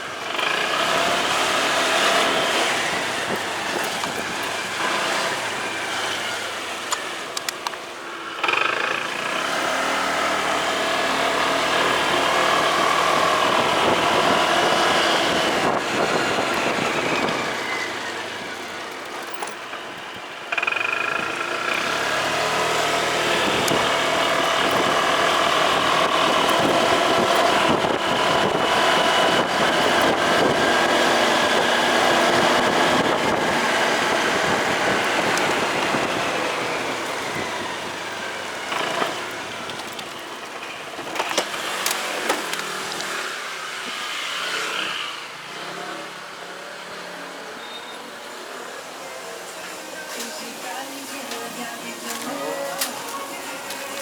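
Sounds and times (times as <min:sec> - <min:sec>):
motorcycle engine running: 0:00.0 - 0:43.6.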